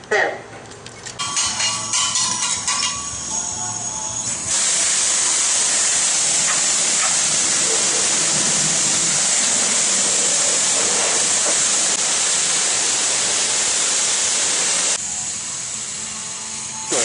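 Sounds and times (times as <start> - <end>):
high-pressure water spray hissing: 1.2 - 17.0.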